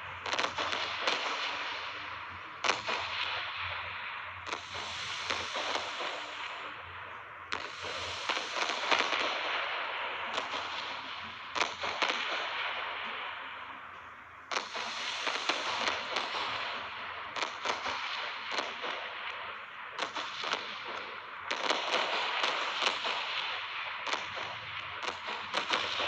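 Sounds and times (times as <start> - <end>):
fireworks crackling hiss: 0.0 - 26.0
fireworks cracks and bangs: 0.0 - 26.0.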